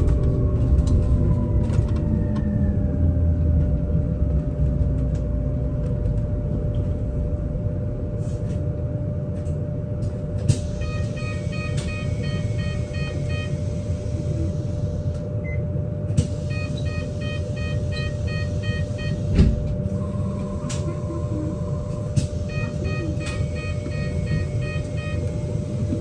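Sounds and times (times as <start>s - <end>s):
electric bus rumbling and humming: 0.0s - 26.0s.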